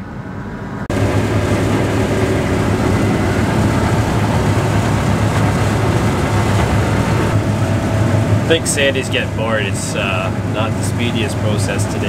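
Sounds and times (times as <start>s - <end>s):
low engine hum: 0.0s - 12.0s
threshing machinery noise: 0.9s - 12.0s.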